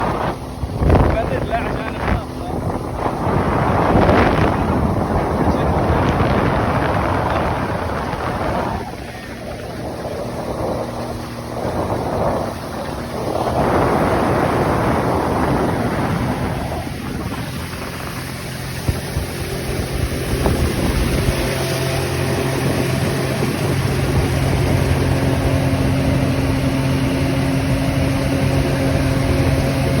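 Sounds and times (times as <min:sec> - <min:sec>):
jet ski engine running: 0:00.0 - 0:30.0
water splashing: 0:00.0 - 0:30.0
wind: 0:00.0 - 0:30.0.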